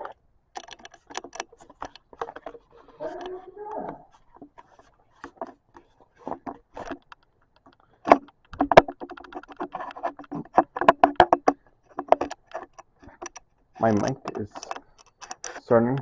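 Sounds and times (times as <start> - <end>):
objects knocking and clattering: 0.0 - 15.7.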